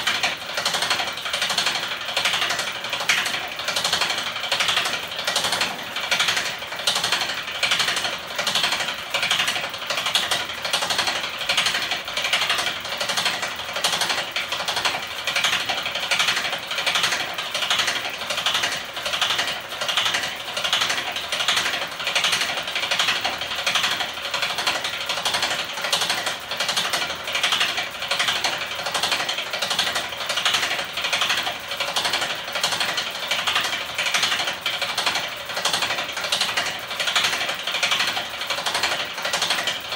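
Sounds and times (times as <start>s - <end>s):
motor mechanism clattering: 0.0s - 39.9s.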